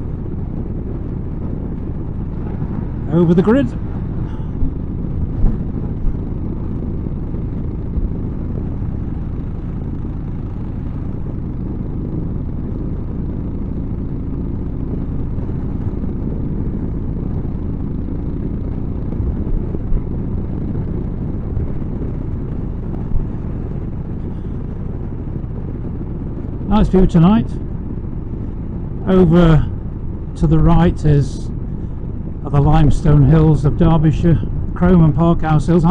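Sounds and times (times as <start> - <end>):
motorcycle engine rumble: 0.0 - 35.9
wind noise: 0.0 - 35.9.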